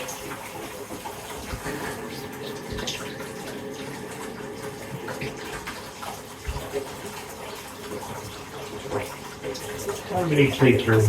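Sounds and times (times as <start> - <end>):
tap running into bathtub: 0.0 - 11.0.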